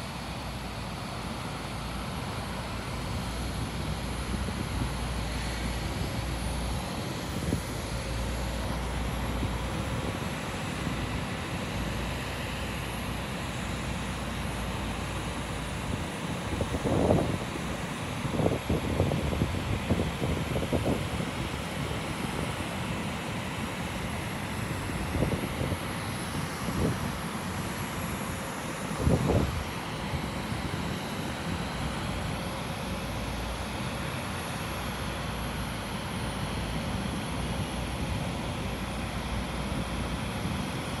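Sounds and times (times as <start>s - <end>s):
jet aircraft rush and whine: 0.0s - 41.0s.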